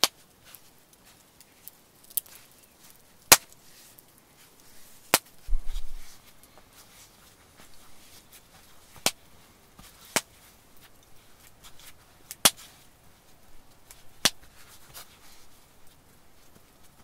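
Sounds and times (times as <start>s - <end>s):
campfire wood popping: 0.0s - 17.0s
fire crackles: 0.0s - 17.0s.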